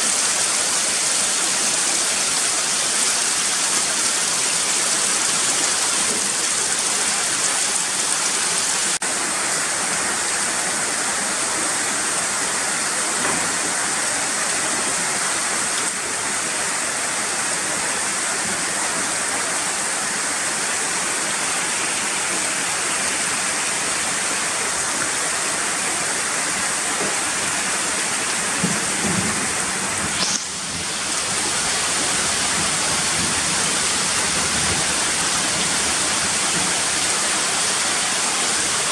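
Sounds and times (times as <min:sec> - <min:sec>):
heavy water hiss: 0:00.0 - 0:38.9.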